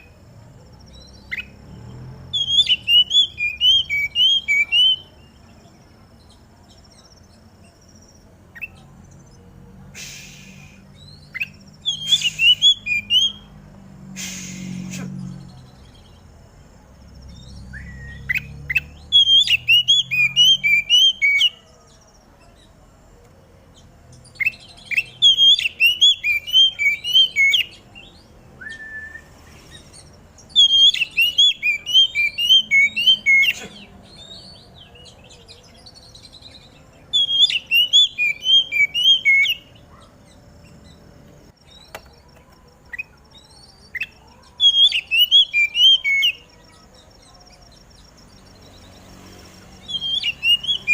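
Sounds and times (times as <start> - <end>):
bird singing whistled notes: 0.0 - 9.2, 10.0 - 16.3, 17.0 - 22.7, 23.8 - 50.9.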